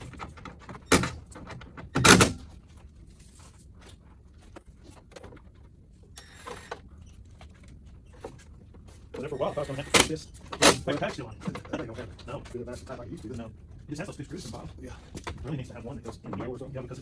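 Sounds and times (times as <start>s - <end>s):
light clicks and rattles: 0.0s - 17.0s.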